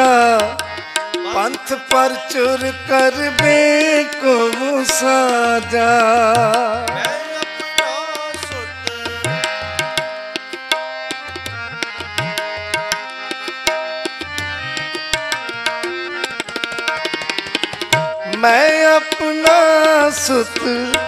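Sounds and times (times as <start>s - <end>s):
harmonium chords: 0.0s - 21.0s
tabla rhythm: 0.0s - 21.0s.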